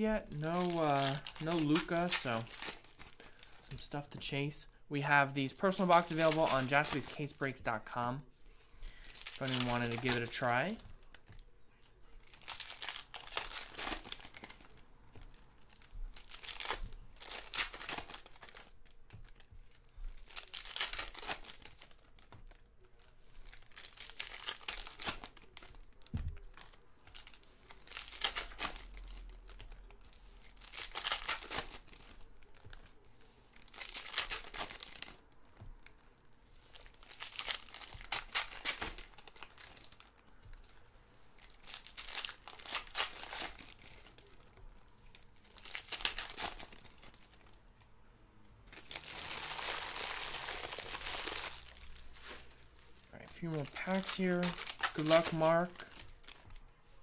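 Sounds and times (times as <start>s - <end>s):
foil wrappers tearing and crinkling: 0.1s - 3.9s, 5.5s - 7.7s, 8.9s - 11.3s, 12.2s - 36.0s, 36.6s - 40.6s, 41.4s - 47.6s, 48.7s - 56.7s.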